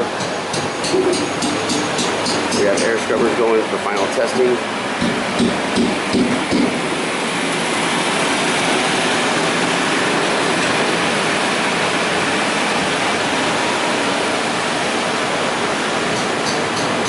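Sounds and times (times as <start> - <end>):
air scrubbers rushing: 0.0 - 17.0.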